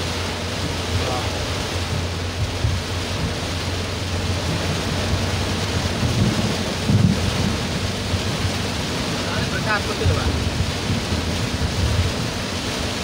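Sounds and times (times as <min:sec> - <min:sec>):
heavy rain on car roof: 0:00.0 - 0:13.0
low rumble: 0:00.0 - 0:13.0.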